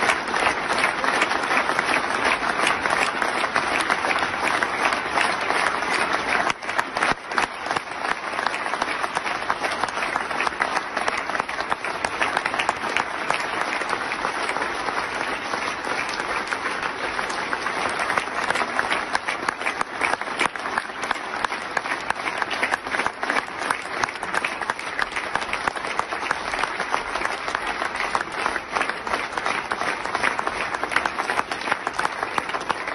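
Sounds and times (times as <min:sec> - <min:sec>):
crowd applauding: 0:00.0 - 0:32.9.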